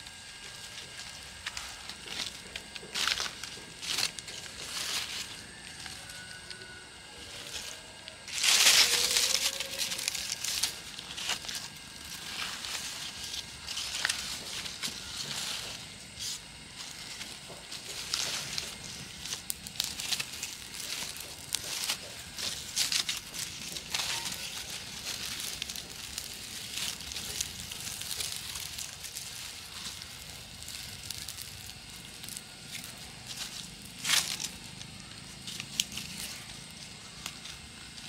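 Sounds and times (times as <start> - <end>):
dry leaves rustling: 0.0 - 38.0
kindling crackling: 0.0 - 38.0.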